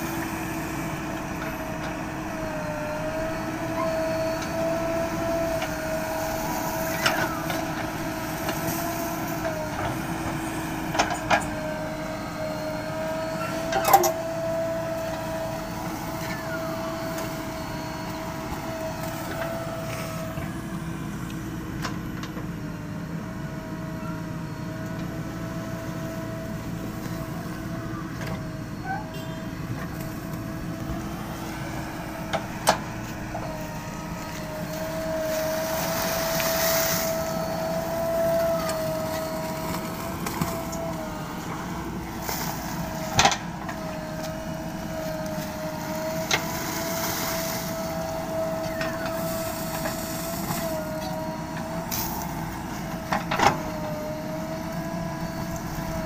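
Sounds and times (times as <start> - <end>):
diesel engine whining: 0.0 - 56.0.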